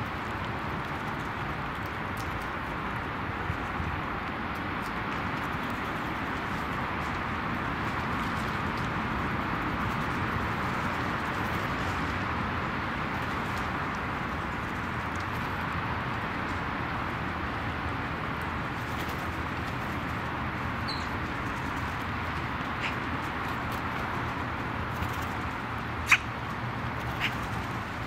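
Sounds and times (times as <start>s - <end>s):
rushing background noise: 0.0s - 28.0s.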